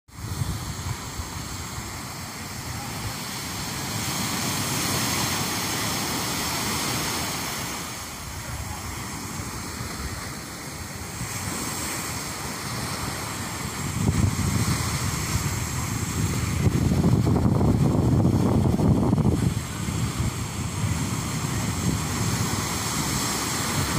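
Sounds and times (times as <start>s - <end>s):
surf breaking on shore: 0.1s - 23.9s
wind buffeting microphone: 0.1s - 23.9s.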